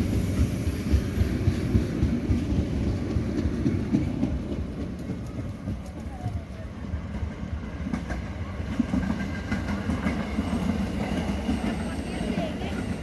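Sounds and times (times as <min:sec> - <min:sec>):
train wheels rumbling and clattering: 0:00.0 - 0:13.0.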